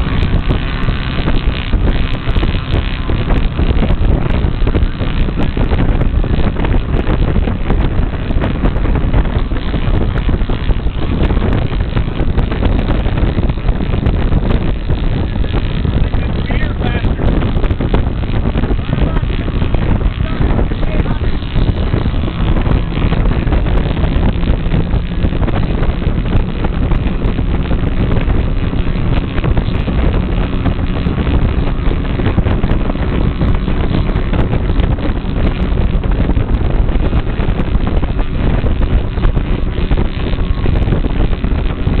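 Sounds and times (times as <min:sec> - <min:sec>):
boat on choppy water: 0:00.0 - 0:42.0
wind buffeting microphone: 0:00.0 - 0:42.0.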